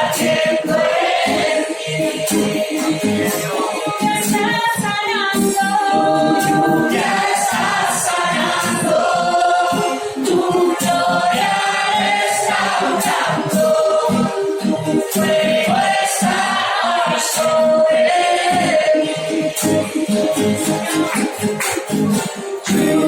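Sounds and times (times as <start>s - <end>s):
backing music: 0.0s - 23.0s
group singing a worship song: 0.0s - 23.0s.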